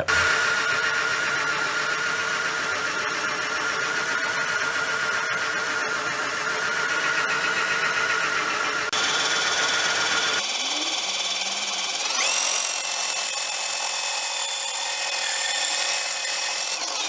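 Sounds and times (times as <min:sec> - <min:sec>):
bandsaw running: 0:00.0 - 0:17.0.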